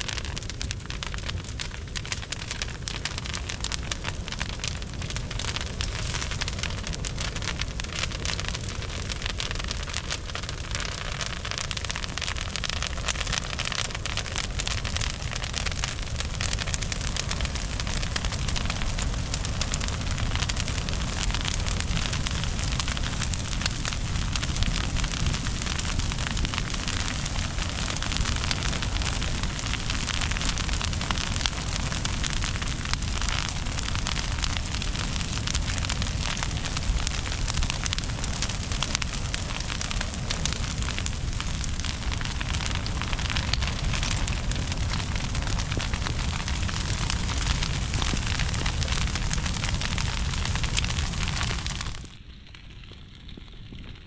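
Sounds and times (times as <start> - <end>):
brush fire crackling and popping: 0.0 - 54.0
low rumble of fire: 0.0 - 54.0.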